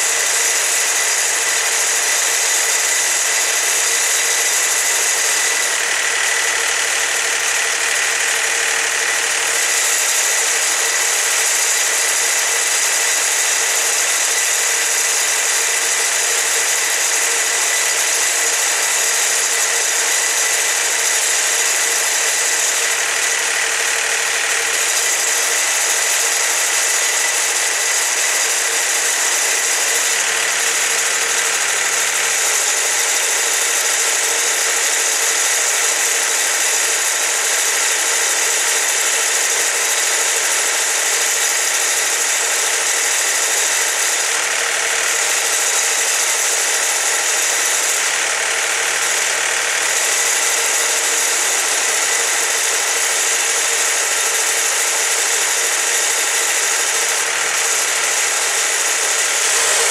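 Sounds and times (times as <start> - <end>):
band sawmill running: 0.0 - 59.9
high whir of band blade: 0.0 - 59.9.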